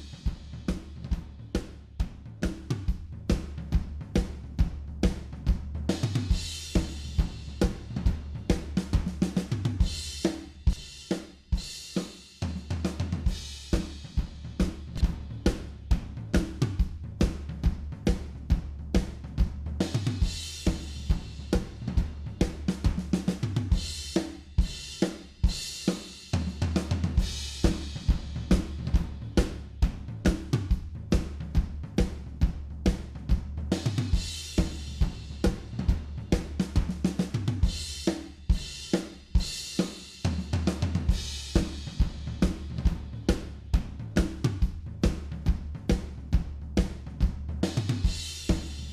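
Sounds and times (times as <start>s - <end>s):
drum kit groove: 0.0s - 48.9s.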